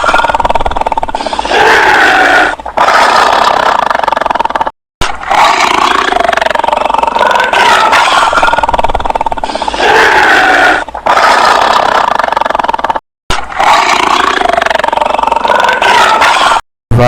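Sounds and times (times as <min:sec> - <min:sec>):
tiger roaring and growling: 0:00.0 - 0:16.6.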